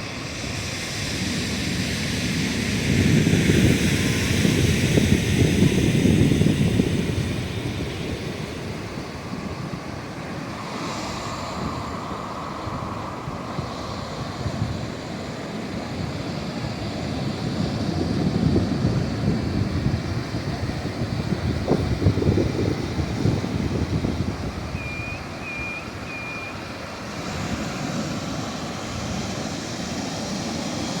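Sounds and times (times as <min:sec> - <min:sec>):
ocean waves washing onto shore: 0:00.0 - 0:31.0
wind buffeting microphone: 0:00.0 - 0:31.0.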